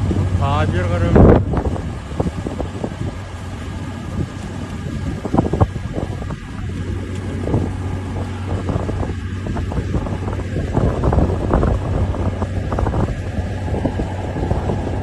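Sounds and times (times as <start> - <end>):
mechanical drone: 0.0 - 15.0
wind rumble on microphone: 0.0 - 15.0.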